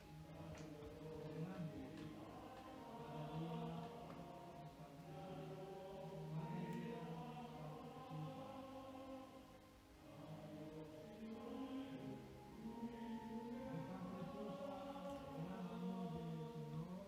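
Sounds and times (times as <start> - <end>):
soft background music: 0.0 - 17.0
man chanting: 0.3 - 9.4, 10.2 - 17.0.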